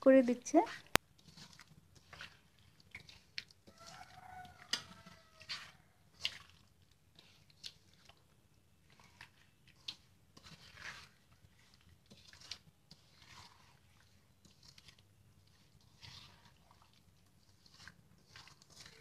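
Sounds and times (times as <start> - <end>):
wet squelching of hand kneading: 0.1 - 19.0.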